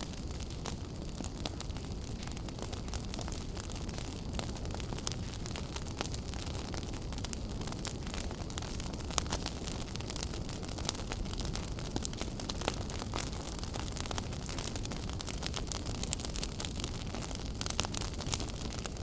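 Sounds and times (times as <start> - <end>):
fire flames rumbling: 0.0 - 19.0
wood fire crackling and popping: 0.0 - 19.0.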